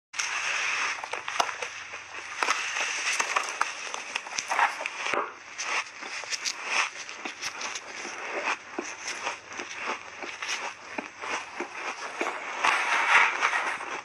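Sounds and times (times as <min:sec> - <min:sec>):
shaved ice being chewed: 0:00.2 - 0:14.0.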